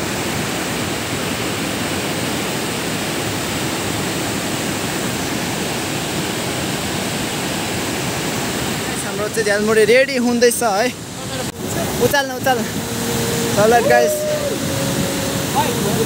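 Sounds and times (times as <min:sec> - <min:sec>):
river rushing over boulders: 0:00.0 - 0:16.0.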